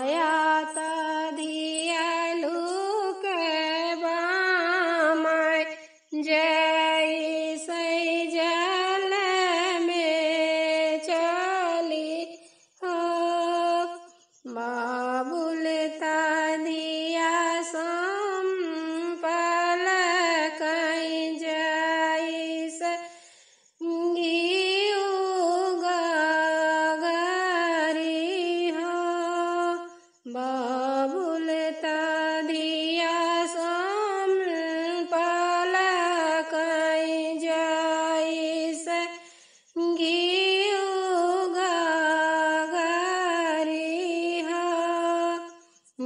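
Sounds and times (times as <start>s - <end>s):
woman singing unaccompanied: 0.0s - 46.0s.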